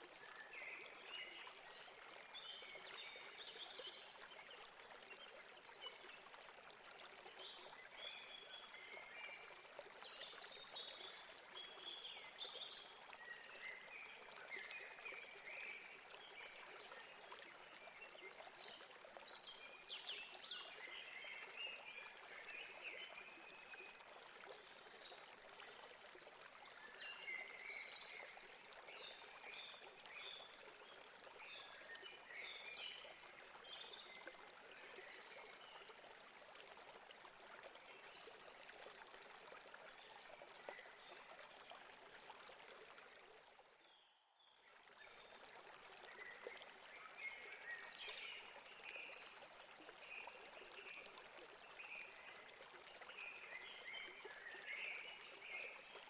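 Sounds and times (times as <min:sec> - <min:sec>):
stream running over rocks: 0:00.0 - 0:43.9, 0:44.6 - 0:56.0.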